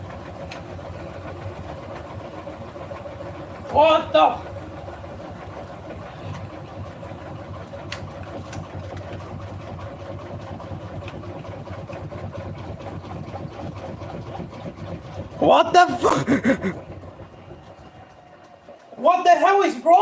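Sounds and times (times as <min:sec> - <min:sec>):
washing machine motor drone: 0:00.0 - 0:20.0.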